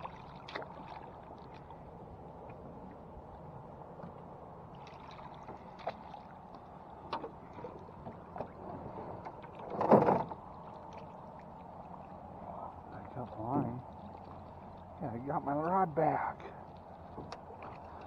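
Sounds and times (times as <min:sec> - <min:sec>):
water lapping against boat: 0:00.0 - 0:18.0.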